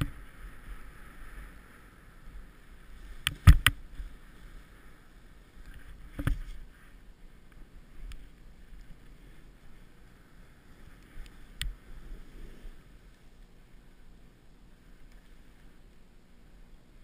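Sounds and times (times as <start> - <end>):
snow hissing under a rider: 0.1 - 3.2, 3.8 - 16.5.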